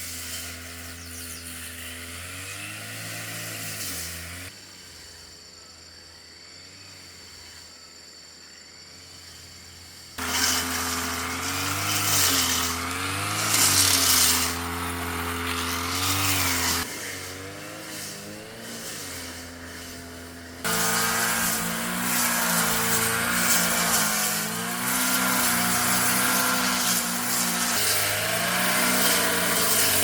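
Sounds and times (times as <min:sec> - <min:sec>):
brush cutter engine running: 0:00.0 - 0:04.5, 0:10.2 - 0:30.0.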